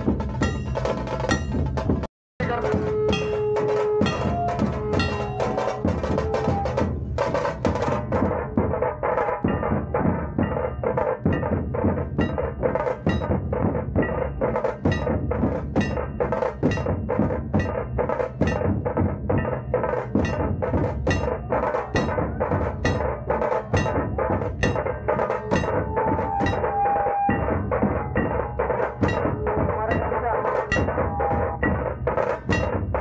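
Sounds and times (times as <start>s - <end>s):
fast drumming on barrel drums: 0.0s - 33.0s.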